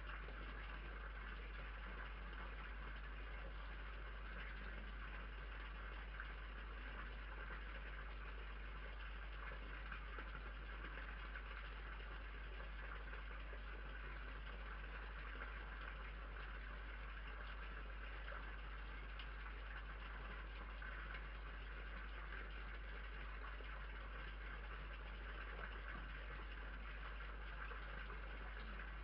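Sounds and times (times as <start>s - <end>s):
constant low hum: 0.0s - 29.0s.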